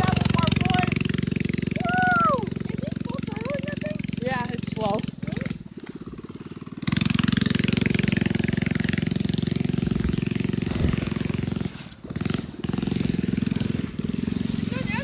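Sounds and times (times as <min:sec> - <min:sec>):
mini bike engine running hard: 0:00.0 - 0:15.0.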